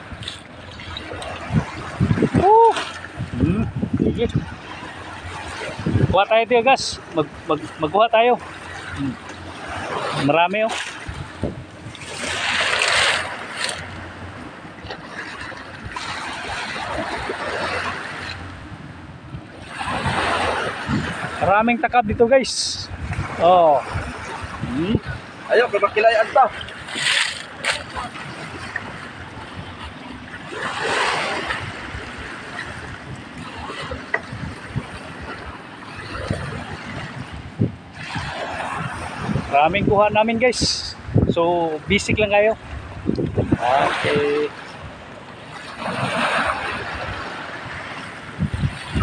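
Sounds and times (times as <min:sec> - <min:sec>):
wind on microphone: 0:00.0 - 0:14.4, 0:15.1 - 0:49.0
sea water splashing and lapping: 0:00.0 - 0:49.0.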